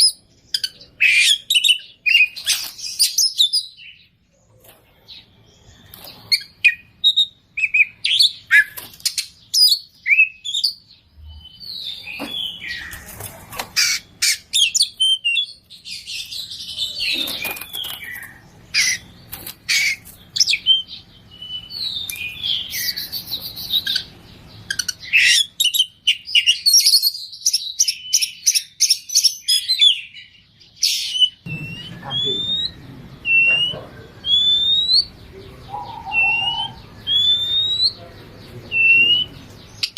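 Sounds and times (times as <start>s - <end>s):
songbird chirps trills and whistles: 0.0s - 39.9s.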